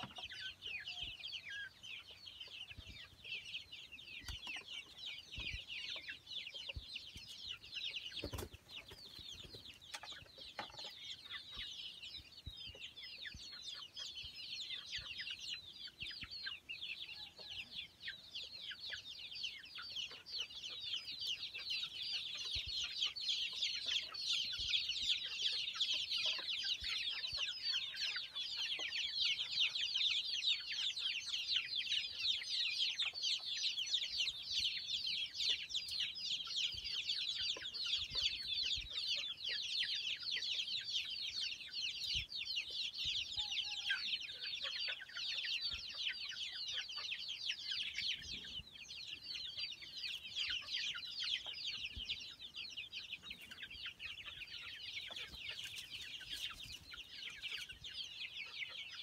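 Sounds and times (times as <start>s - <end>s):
young chickens peeping: 0.0s - 59.0s.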